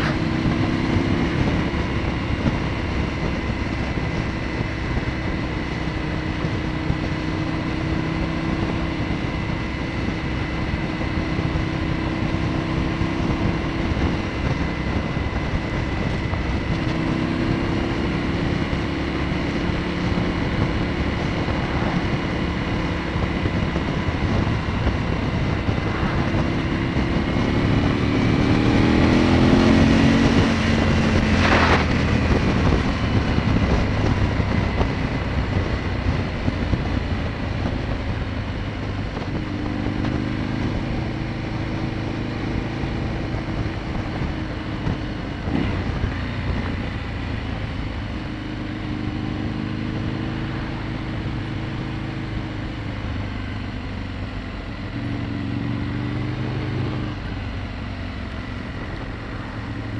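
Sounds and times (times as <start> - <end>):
wind rush: 0.0 - 53.8, 54.7 - 59.9
motorcycle engine accelerating: 0.0 - 59.9.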